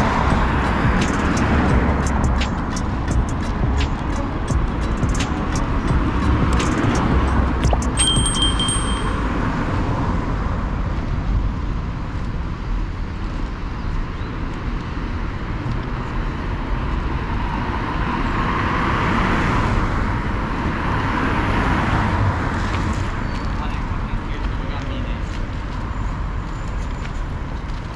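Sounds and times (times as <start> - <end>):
cars passing on wet road: 0.0 - 8.0, 9.1 - 27.9
low traffic rumble: 0.0 - 27.9.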